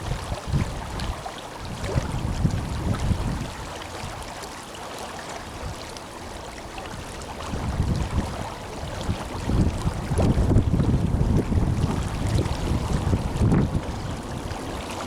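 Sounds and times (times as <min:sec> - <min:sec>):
wind rumbling on microphone: 0:00.0 - 0:04.4, 0:06.8 - 0:15.0
river water rushing: 0:00.0 - 0:15.0.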